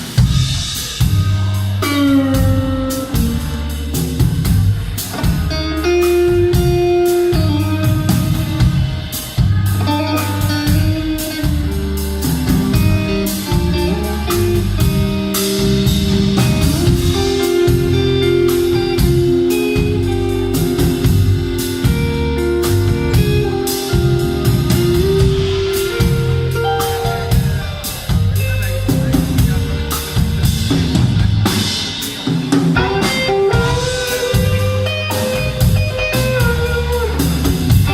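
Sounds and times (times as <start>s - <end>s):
bass line: 0.0s - 37.9s
drum kit: 0.0s - 37.9s
electric guitar: 0.0s - 37.9s.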